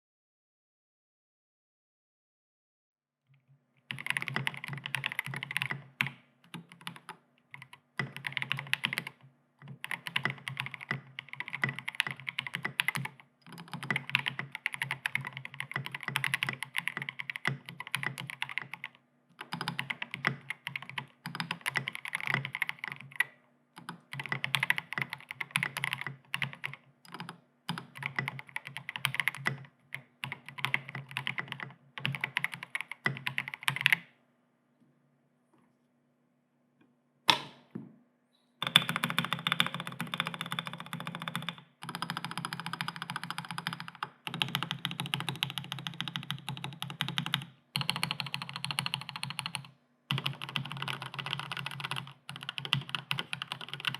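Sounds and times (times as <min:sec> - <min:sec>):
mechanical keyboard typing: 0:03.9 - 0:34.0, 0:38.6 - 0:53.9.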